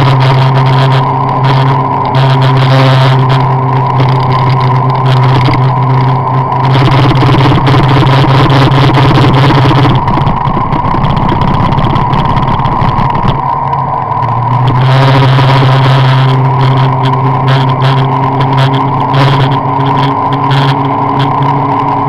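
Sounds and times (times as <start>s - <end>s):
car engine running: 0.0s - 22.0s
road and wind noise: 0.0s - 22.0s.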